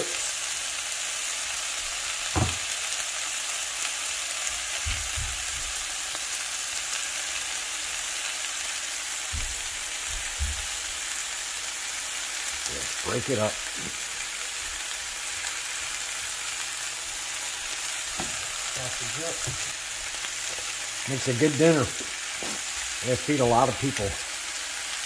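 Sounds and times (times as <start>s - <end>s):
food sizzling in a skillet: 0.0s - 25.0s.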